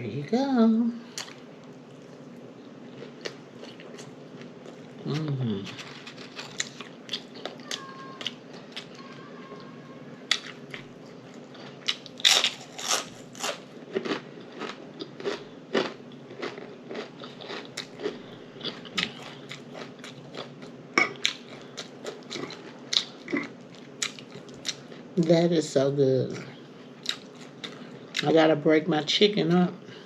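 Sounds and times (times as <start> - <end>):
person chewing and crunching food: 1.1 - 25.2, 26.6 - 28.3.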